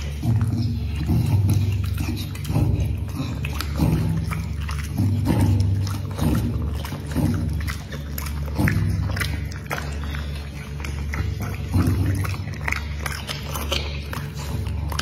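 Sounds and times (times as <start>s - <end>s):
dog chewing with wet smacks: 0.0s - 15.0s.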